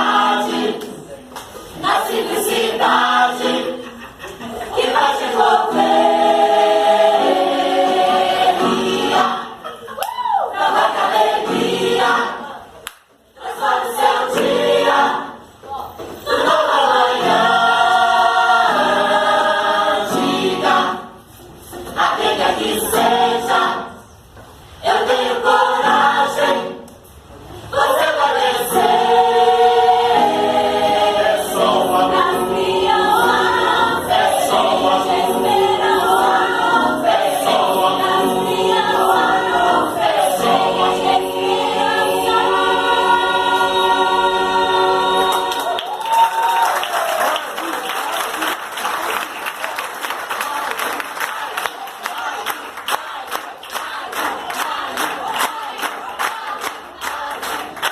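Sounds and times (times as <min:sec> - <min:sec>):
mixed choir singing: 0:00.0 - 0:47.0, 0:50.0 - 0:57.9.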